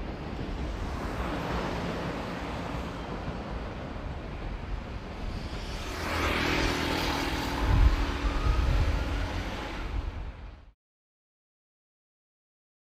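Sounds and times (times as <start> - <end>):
train rumbling on tracks: 0.0 - 10.7.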